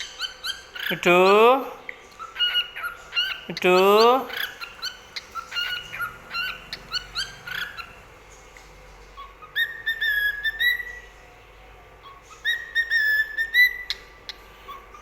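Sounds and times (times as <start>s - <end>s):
pet birds chirping: 0.0s - 15.0s.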